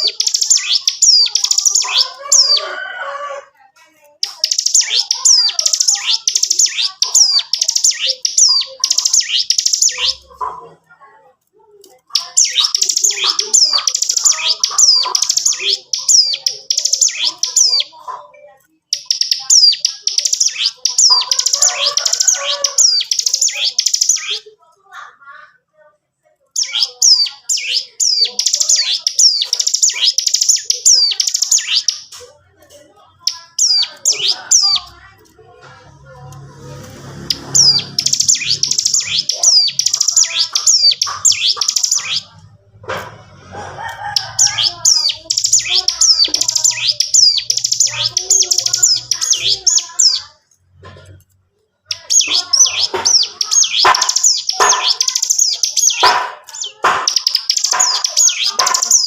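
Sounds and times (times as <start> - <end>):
bird singing chattering trills: 0.0 - 2.7, 4.1 - 10.8, 12.1 - 24.5, 26.5 - 32.2, 32.8 - 35.4, 36.8 - 42.5, 43.3 - 50.4, 51.8 - 59.0.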